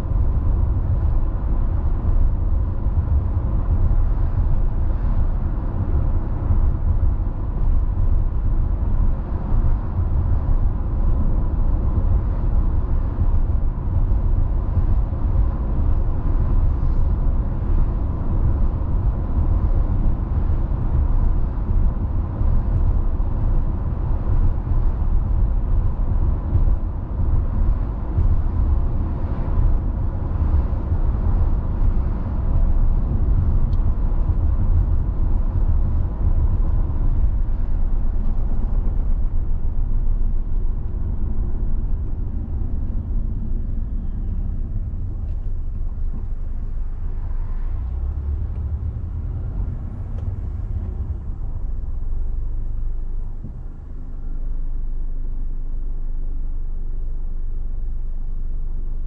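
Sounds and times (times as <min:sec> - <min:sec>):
car tyres rumbling on road: 0:00.0 - 0:59.0.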